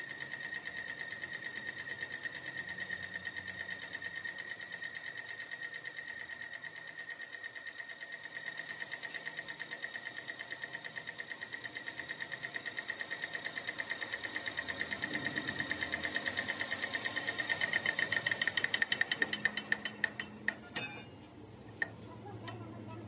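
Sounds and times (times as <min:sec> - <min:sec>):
lathe cutting tool squealing: 0:00.0 - 0:20.3.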